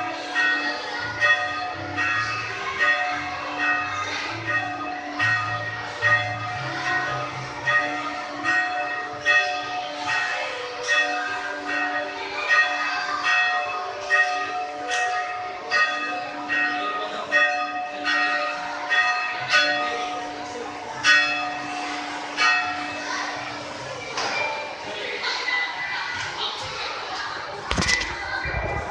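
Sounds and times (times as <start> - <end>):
church bells pealing: 0.0 - 26.0.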